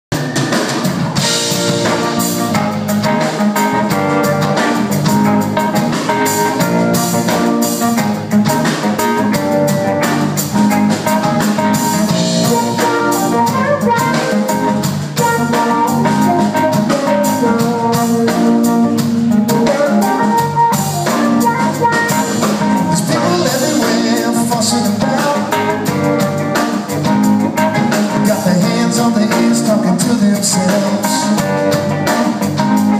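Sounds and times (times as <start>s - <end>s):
bass guitar: 0.1s - 32.9s
drum kit: 0.1s - 32.9s
keyboard: 0.1s - 32.9s
acoustic-electric guitar: 0.2s - 32.9s.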